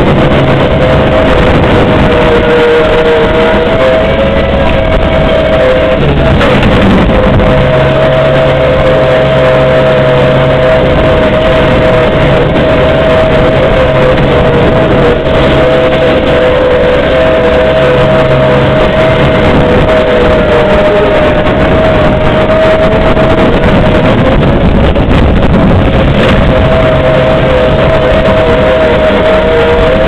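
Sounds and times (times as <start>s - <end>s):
steady whine: 0.0s - 30.0s.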